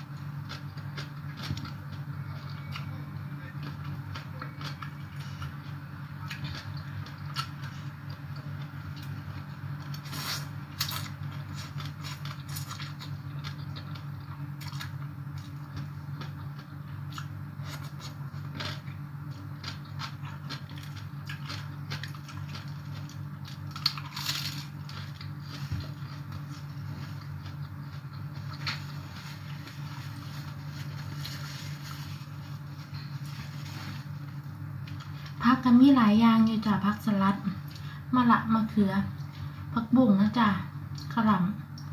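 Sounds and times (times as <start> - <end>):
chewing and crunching food: 0.0 - 35.9
steady low hum: 0.0 - 41.9.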